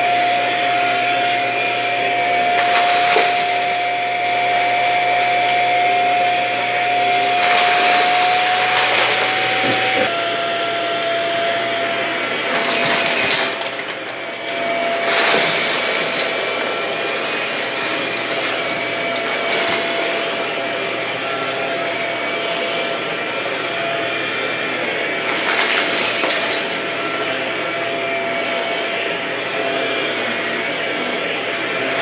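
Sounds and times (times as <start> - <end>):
vacuum motor whine: 0.0 - 32.0.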